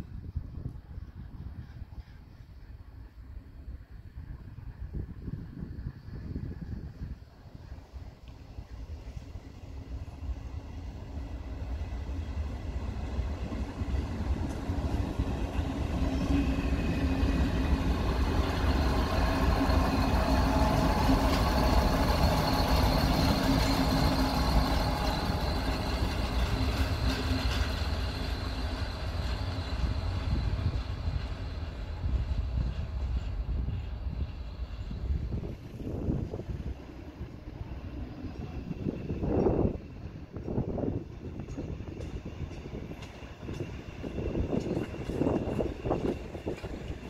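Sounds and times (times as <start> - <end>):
diesel railcar engine passing: 0.0 - 47.0.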